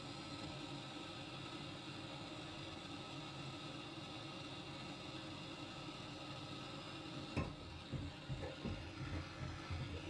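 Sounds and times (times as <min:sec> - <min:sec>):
gas torch hissing: 0:00.0 - 0:10.0.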